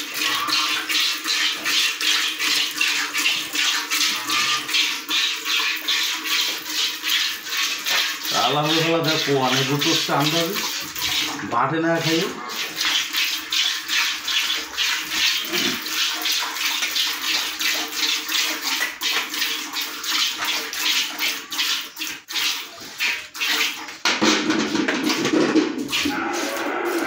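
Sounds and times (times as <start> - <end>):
milk squirting into steel pot: 0.0 - 27.0.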